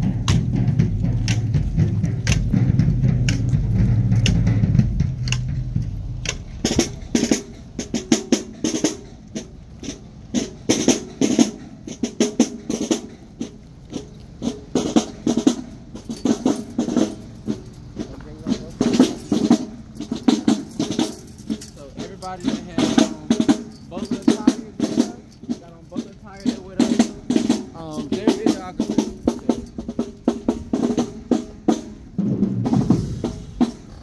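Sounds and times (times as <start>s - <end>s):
marching drumline playing: 0.0s - 34.0s.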